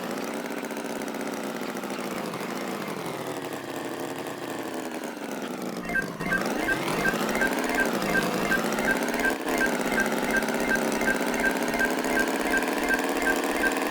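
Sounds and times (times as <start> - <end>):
tractor engine running: 2.1 - 13.9.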